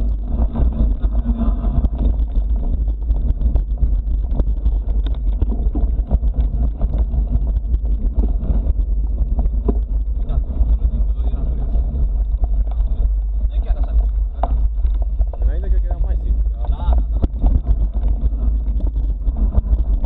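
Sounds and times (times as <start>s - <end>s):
bike rattles and knocks: 0.0s - 20.0s
wind buffeting microphone: 0.0s - 20.0s.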